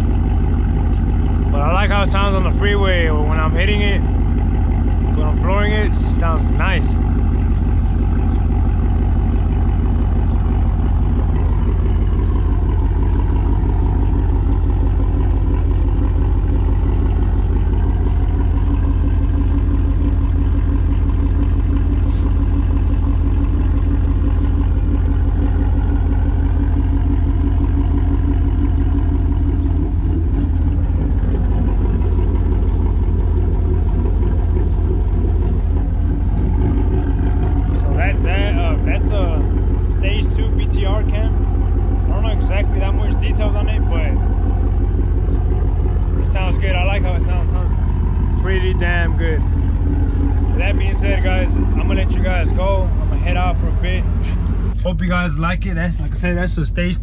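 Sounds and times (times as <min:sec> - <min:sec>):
engine idling with choppy exhaust: 0:00.0 - 0:57.0.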